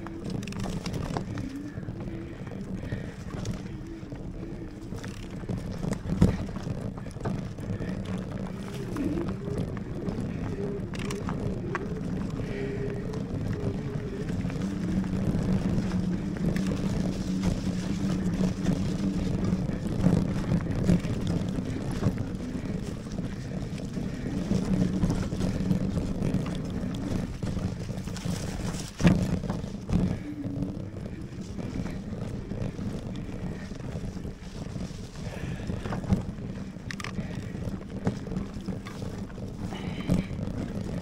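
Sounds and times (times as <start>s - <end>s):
electric motor hum: 0.0s - 41.0s
tyres on dirt trail: 0.0s - 41.0s
wind noise: 0.0s - 41.0s.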